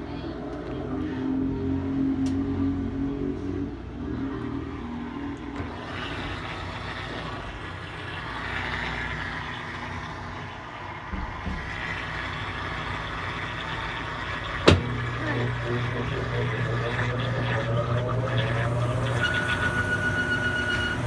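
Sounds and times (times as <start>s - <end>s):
washing machine spinning: 4.0s - 21.0s.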